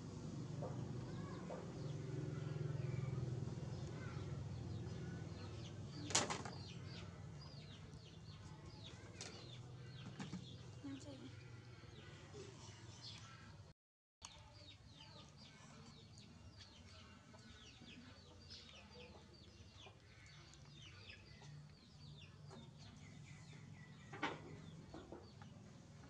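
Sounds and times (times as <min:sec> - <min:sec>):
birds chirping: 0:00.4 - 0:13.6, 0:14.3 - 0:26.0.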